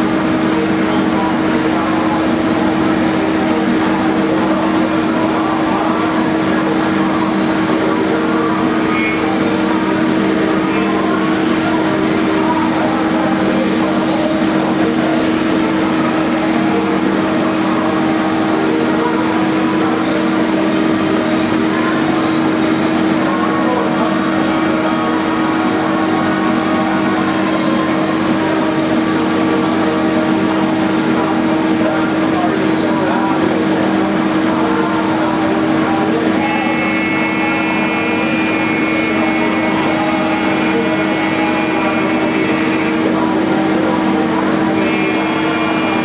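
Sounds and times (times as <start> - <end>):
lathe running hum: 0.0 - 46.0.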